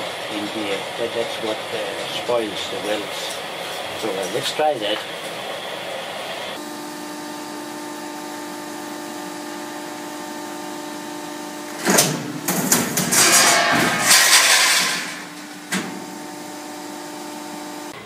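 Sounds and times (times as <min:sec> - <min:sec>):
shear motor humming: 0:00.0 - 0:13.2, 0:13.9 - 0:18.0
loud rough cutting noise: 0:00.0 - 0:18.0.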